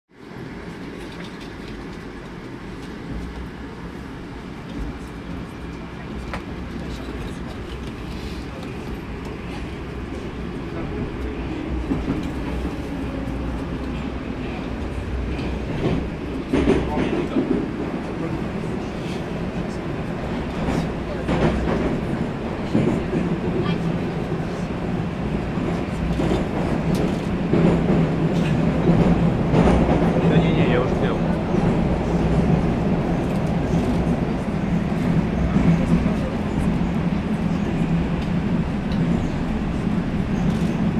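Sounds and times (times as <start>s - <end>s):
metro train low rumble: 0.1s - 40.9s.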